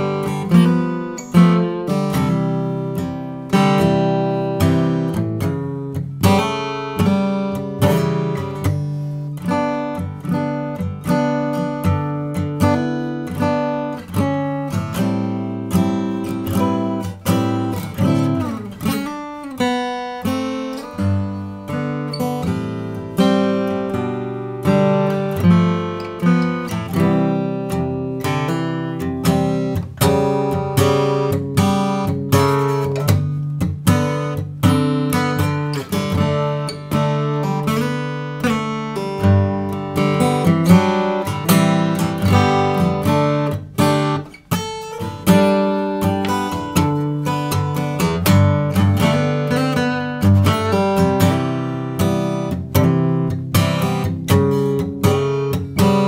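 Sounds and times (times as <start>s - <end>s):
acoustic guitar strummed: 0.0s - 56.0s.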